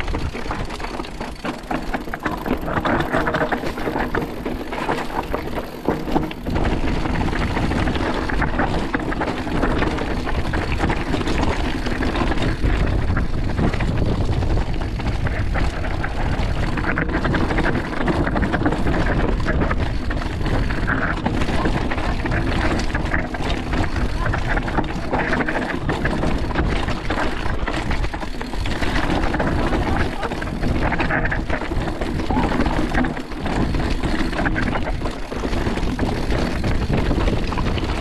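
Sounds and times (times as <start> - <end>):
mountain bike rolling and rattling: 0.0 - 38.0.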